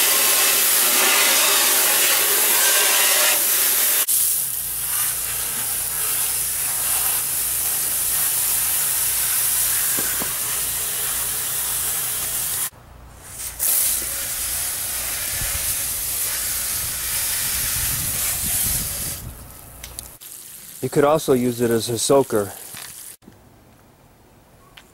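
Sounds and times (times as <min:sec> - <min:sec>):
water jets spraying: 0:00.0 - 0:12.7, 0:13.3 - 0:23.2.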